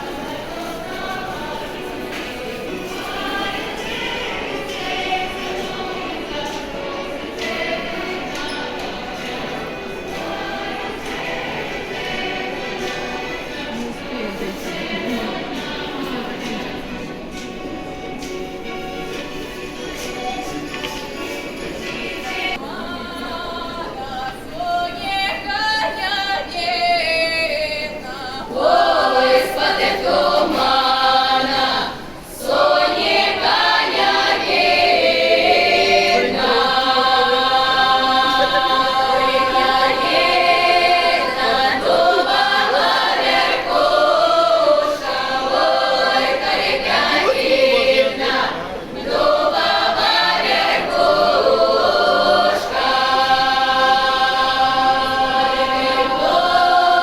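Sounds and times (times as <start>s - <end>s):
folk choir singing: 0.0s - 57.0s.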